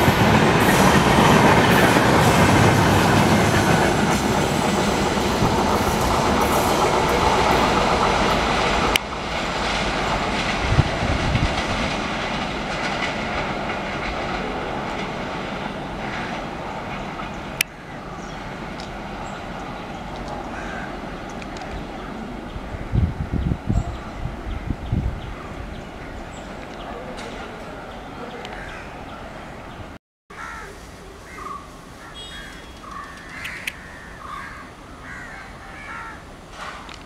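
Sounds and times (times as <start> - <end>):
train wheels rolling on rails: 0.0 - 29.9, 36.3 - 37.0.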